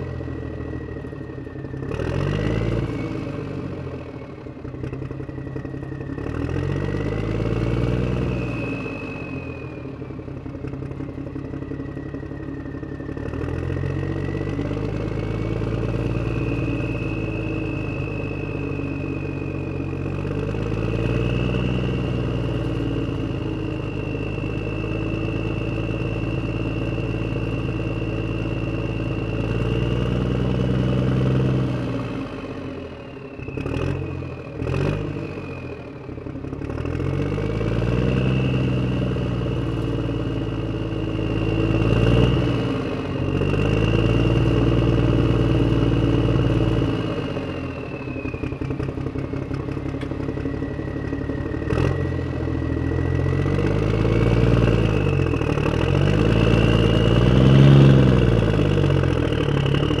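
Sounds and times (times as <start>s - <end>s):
engine droning and whining: 0.0s - 60.0s.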